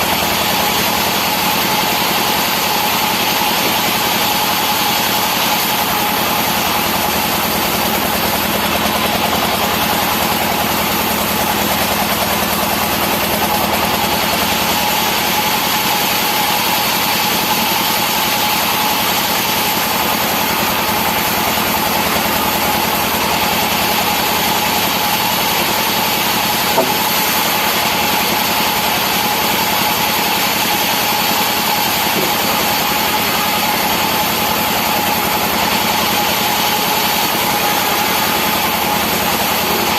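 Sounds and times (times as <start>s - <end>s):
engine-driven wood saw running: 0.0s - 39.9s.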